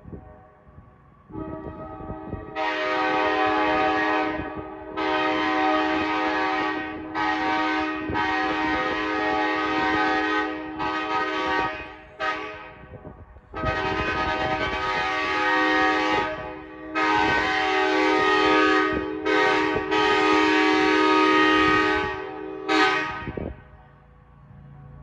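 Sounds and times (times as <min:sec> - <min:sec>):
locomotive air horn blasts: 0:01.3 - 0:23.8.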